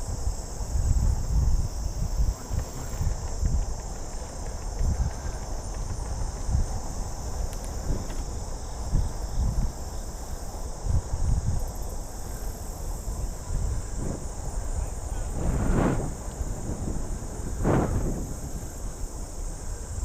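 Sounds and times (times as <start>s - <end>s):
high-pitched insect chorus: 0.0s - 20.0s
wind buffeting microphone: 0.0s - 20.0s.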